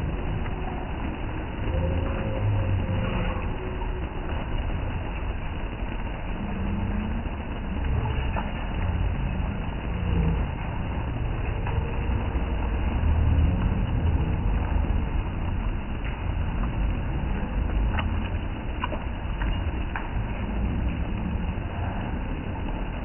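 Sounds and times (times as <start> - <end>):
rain falling on stone paving: 0.0 - 23.0.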